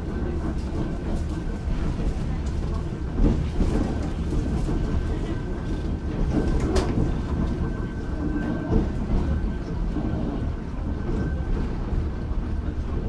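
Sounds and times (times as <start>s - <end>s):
railcar rumbling on track: 0.0s - 13.0s.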